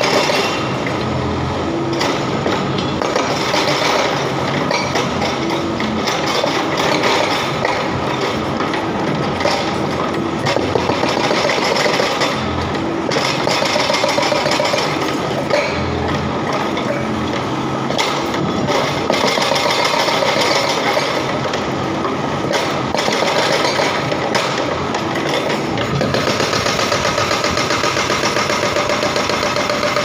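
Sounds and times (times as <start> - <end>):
excavator engine running: 0.0 - 30.0
hydraulic breaker hammering concrete: 0.0 - 30.0.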